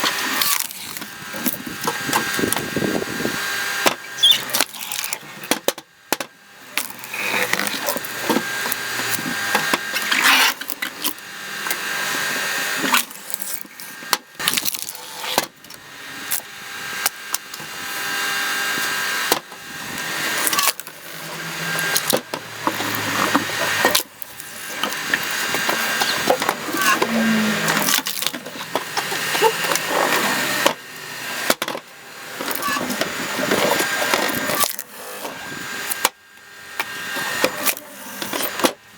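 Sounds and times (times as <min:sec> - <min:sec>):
steady motor hum: 0:00.0 - 0:38.9
wood creaking and splitting: 0:00.3 - 0:36.2.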